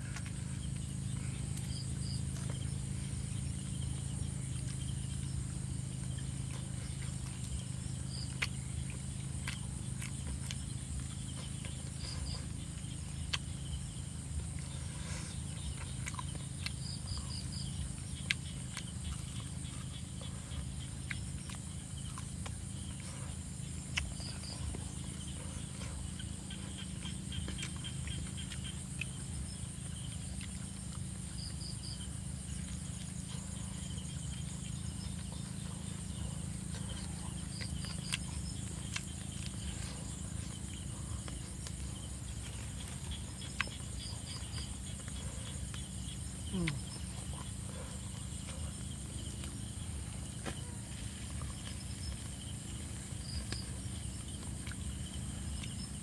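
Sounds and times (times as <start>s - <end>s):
high insect drone: 0.0s - 56.0s
low hum: 0.0s - 56.0s.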